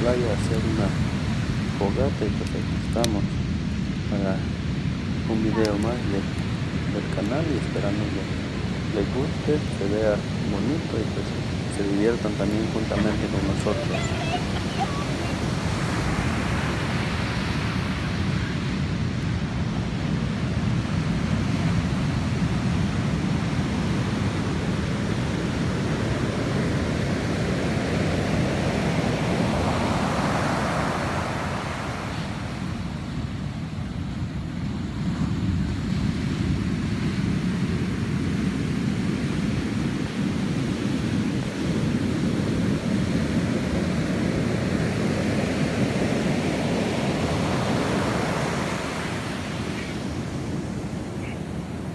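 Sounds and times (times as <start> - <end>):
ocean surf breaking on beach: 0.0 - 51.9.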